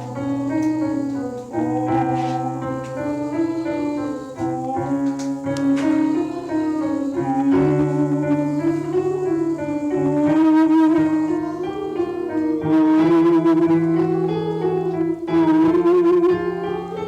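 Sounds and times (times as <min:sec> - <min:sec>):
choir singing vowels: 0:00.0 - 0:17.0
piano chords: 0:00.0 - 0:17.0.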